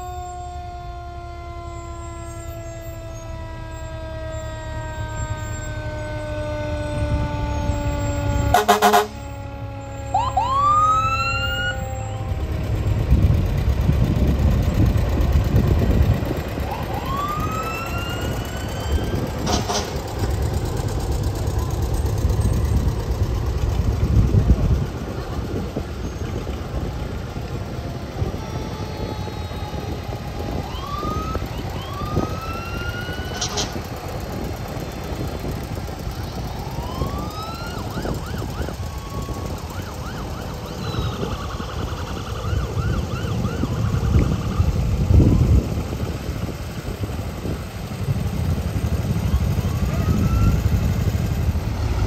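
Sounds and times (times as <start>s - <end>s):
fire engine diesel rumbling: 0.0s - 52.0s
rising siren whoops: 0.0s - 52.0s.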